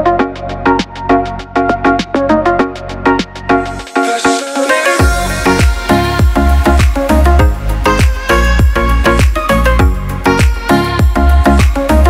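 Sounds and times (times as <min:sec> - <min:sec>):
music with heavy bass and steady beat: 0:00.0 - 0:12.0.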